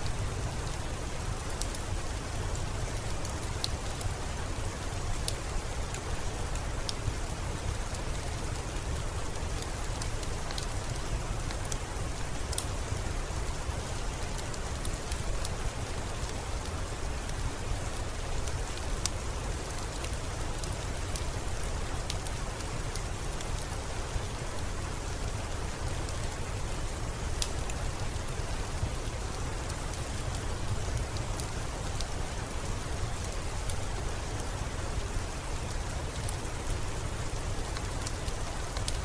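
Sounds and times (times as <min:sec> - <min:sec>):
steady rainfall hiss: 0:00.0 - 0:39.0.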